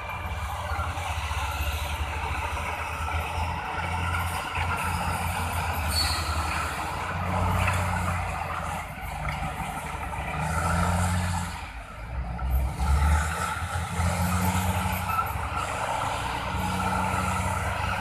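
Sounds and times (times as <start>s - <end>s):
diesel engines rumbling: 0.0s - 18.0s.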